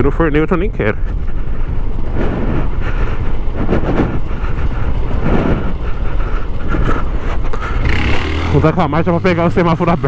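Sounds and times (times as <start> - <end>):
wind rumble on microphone: 0.0 - 8.7
motorcycle engine running: 0.0 - 10.0.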